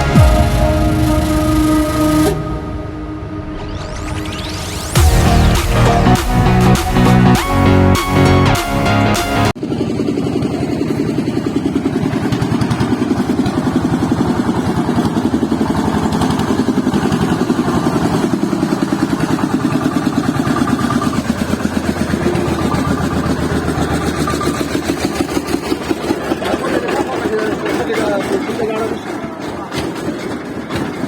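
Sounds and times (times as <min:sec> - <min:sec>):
tractor engine idling: 0:00.0 - 0:03.9, 0:04.6 - 0:31.0.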